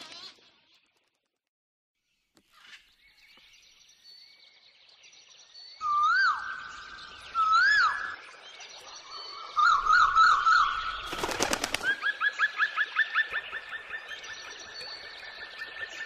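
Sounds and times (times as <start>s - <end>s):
songbird singing: 2.2s - 16.0s.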